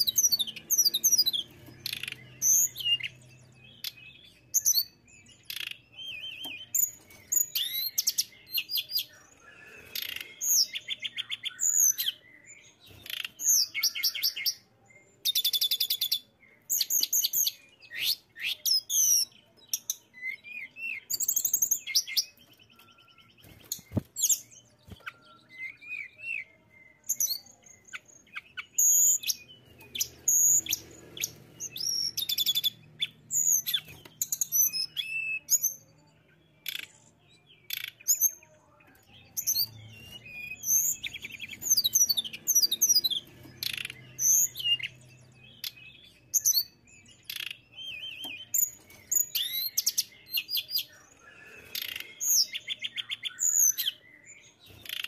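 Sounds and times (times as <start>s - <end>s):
bird singing whistles and trills: 0.0s - 35.8s, 39.3s - 55.0s.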